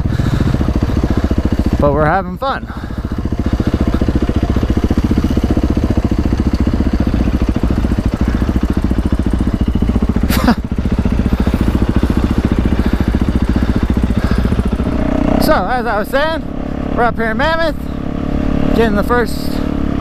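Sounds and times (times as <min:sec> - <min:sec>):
dirt bike engines at low revs: 0:00.0 - 0:20.0.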